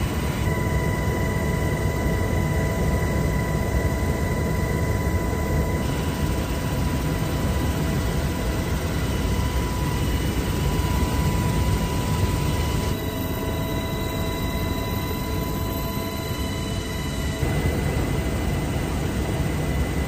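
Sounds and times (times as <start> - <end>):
helicopter rotor and engine rumble: 0.0 - 20.0
high whine: 0.0 - 20.0.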